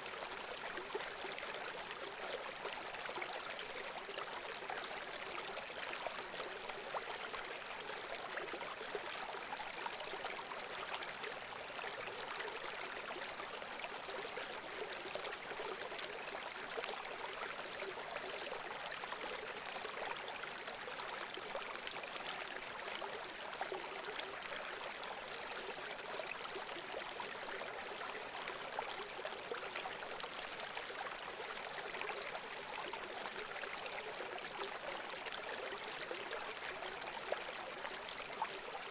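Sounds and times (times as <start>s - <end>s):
stream water trickling and splashing: 0.0s - 38.9s.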